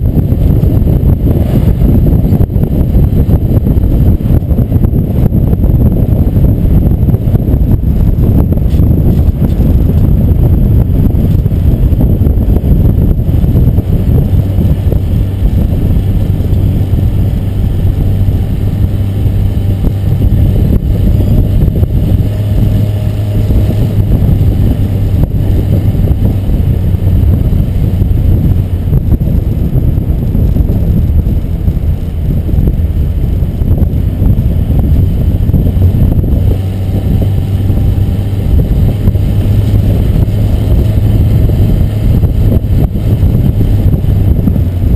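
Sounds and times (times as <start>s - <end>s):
constant low hum: 0.0s - 44.9s
vehicle road and wind rumble: 0.0s - 44.9s.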